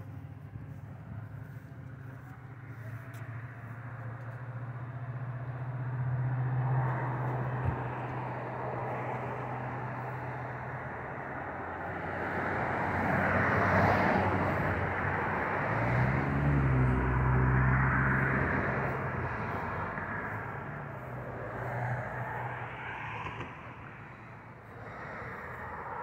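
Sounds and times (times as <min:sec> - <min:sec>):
passing vehicle engine hum: 0:00.0 - 0:26.0
road and outdoor noise: 0:00.0 - 0:26.0.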